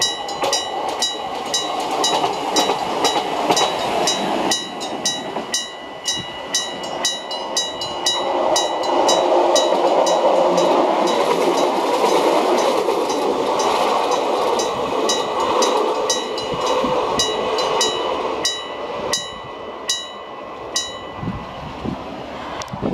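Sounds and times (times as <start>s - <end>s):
level crossing bell ringing: 0.0s - 21.4s
train running over crossing: 0.0s - 22.9s.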